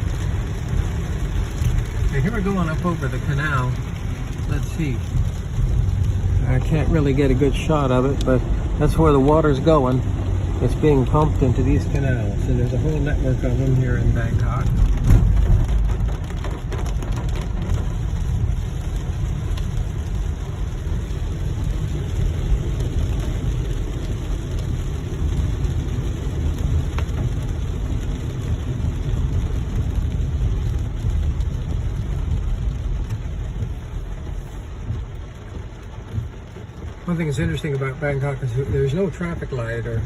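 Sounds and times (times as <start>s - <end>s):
car driving on wet road: 0.0s - 40.0s.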